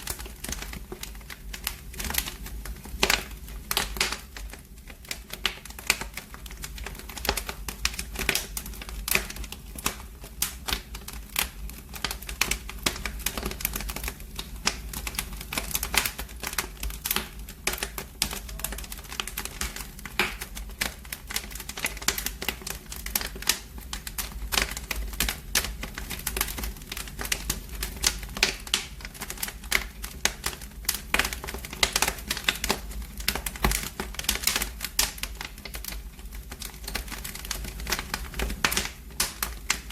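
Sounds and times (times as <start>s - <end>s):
fire crackling and popping: 0.0s - 39.9s
low rumble of fire: 0.0s - 39.9s.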